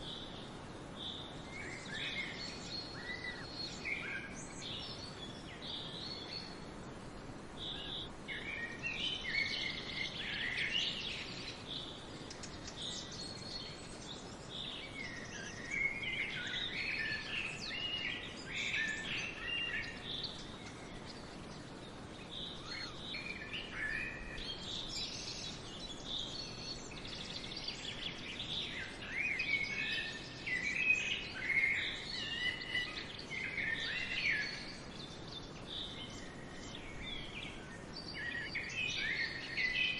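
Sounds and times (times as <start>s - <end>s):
outdoor background hiss: 0.0s - 39.9s
small birds chirping: 0.0s - 39.9s.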